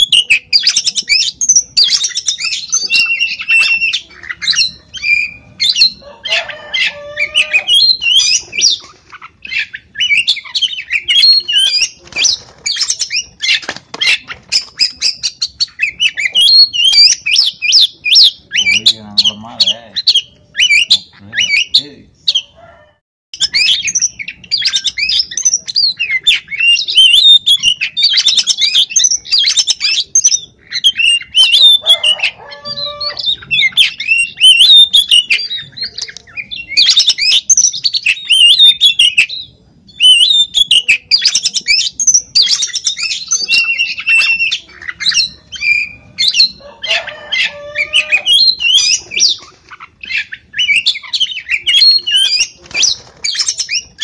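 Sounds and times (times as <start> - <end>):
bird singing whistles and trills: 0.0 - 8.8, 9.4 - 22.5, 23.4 - 54.0.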